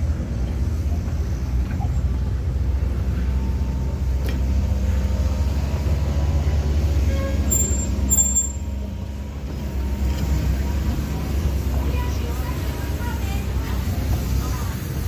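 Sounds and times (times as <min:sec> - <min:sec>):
locomotive rumble: 0:00.0 - 0:15.0.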